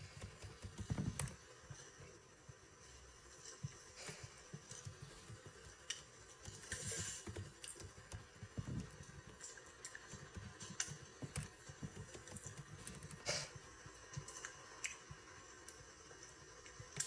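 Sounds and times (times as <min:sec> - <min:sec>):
faint clicks and taps: 0:00.0 - 0:02.8, 0:03.4 - 0:17.0.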